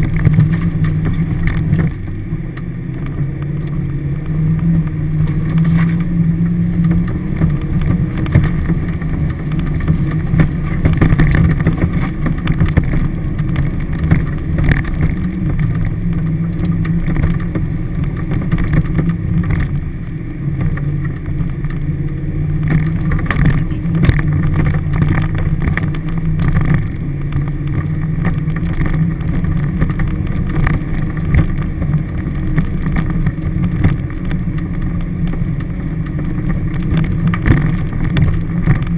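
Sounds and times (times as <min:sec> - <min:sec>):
body knocks and rattles: 0:00.0 - 0:03.6, 0:04.3 - 0:19.8, 0:20.5 - 0:38.9
engine drone inside cab: 0:00.0 - 0:38.9.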